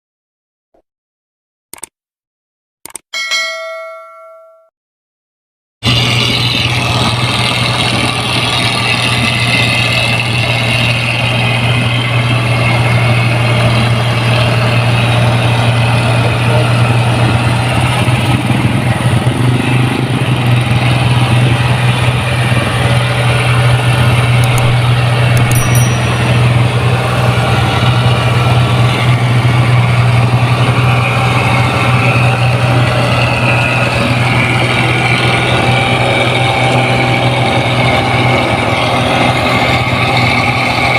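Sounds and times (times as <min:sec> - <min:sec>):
combine harvester engine humming: 0:05.8 - 0:40.9.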